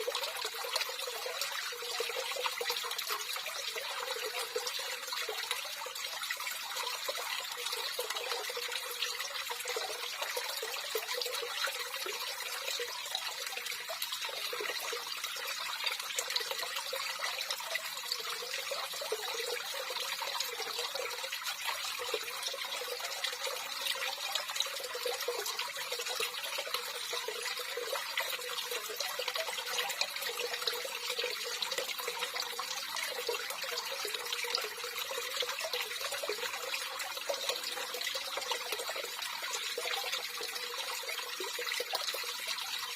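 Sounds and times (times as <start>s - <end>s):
running water trickling and splashing: 0.0s - 42.9s.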